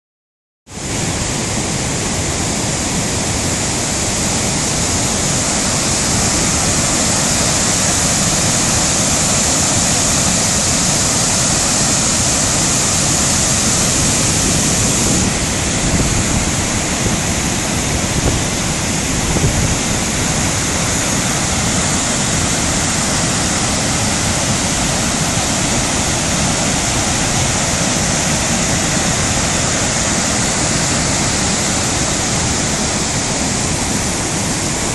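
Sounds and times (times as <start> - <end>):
waterfall and rapids rushing: 0.7 - 34.9.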